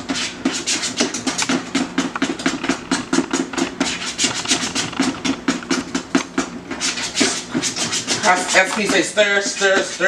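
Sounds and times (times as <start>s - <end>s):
batter stirred in plastic bowl: 0.0s - 10.0s.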